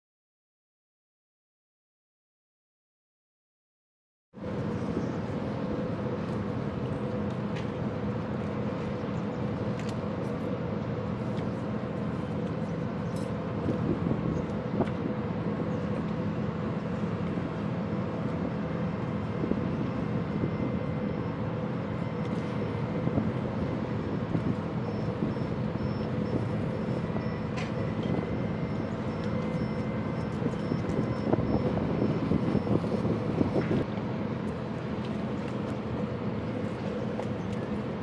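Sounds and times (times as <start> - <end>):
low engine drone: 4.4 - 38.0.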